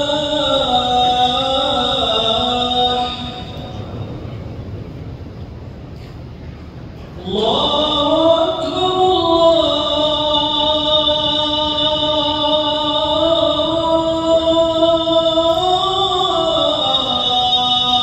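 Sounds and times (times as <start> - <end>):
man calling to prayer over microphone: 0.0 - 4.0, 7.2 - 18.0.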